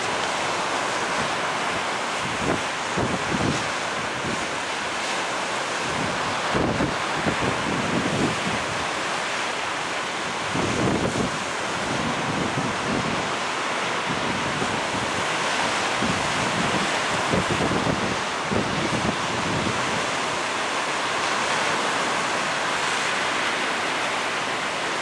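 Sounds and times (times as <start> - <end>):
wind rumbling on microphone: 0.0 - 9.4, 10.1 - 23.9
small waves breaking on shore: 0.0 - 25.0.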